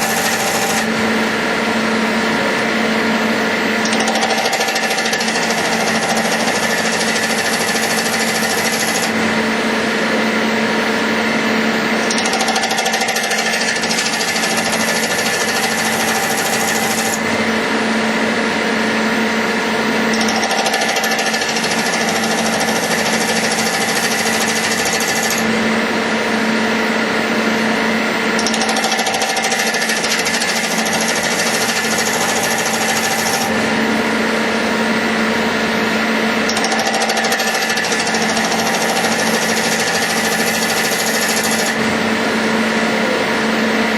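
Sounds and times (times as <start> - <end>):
metal lathe humming: 0.0 - 43.9.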